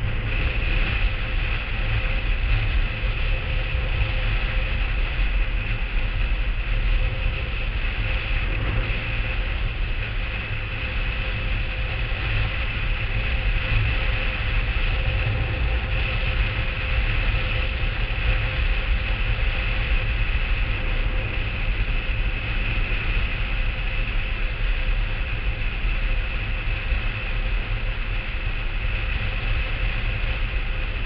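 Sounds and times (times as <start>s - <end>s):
faint steady whine: 0.0s - 31.0s
wind buffeting camera: 0.0s - 31.0s.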